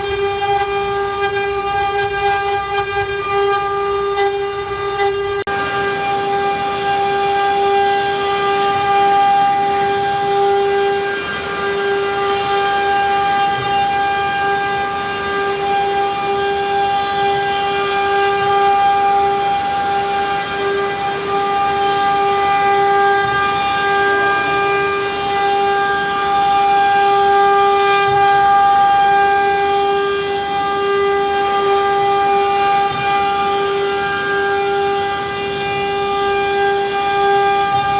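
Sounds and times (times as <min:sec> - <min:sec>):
cutter rasping in wood: 0:00.0 - 0:37.9
router spindle whine: 0:00.0 - 0:37.9.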